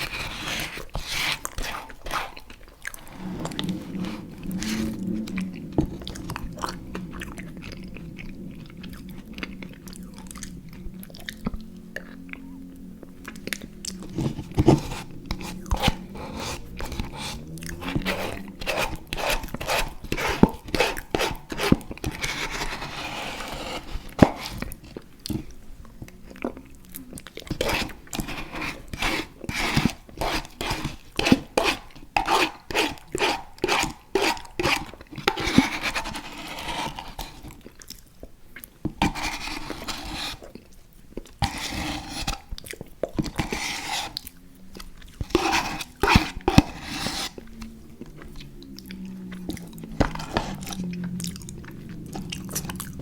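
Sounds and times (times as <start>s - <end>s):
chewing sticky candy: 0.0s - 53.0s.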